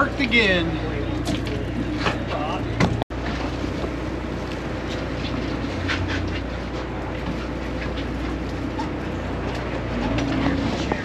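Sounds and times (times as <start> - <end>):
boat engine humming: 0.0 - 11.0
wind and water noise: 0.0 - 11.0.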